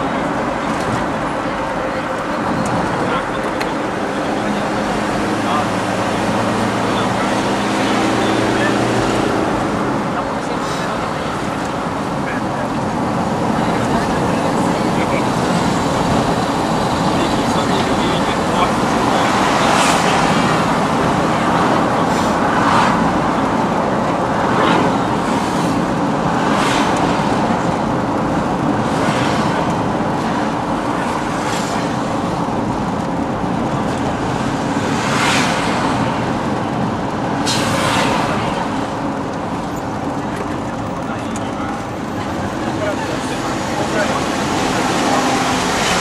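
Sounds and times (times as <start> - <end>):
road and engine noise: 0.0 - 46.0
traffic swishing past: 0.0 - 46.0.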